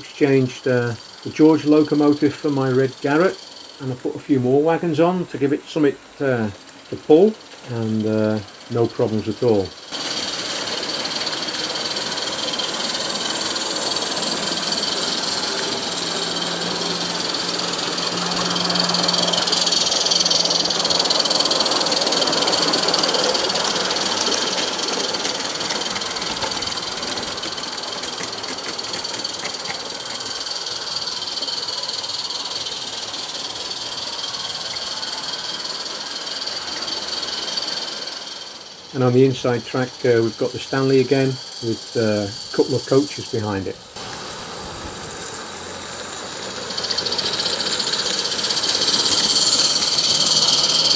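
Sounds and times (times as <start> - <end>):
model steam locomotive running: 0.0 - 50.9.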